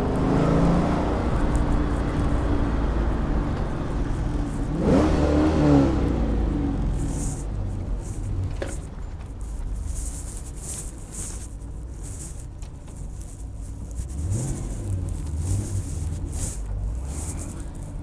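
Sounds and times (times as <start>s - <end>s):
car engine rumbling and revving: 0.0s - 18.0s.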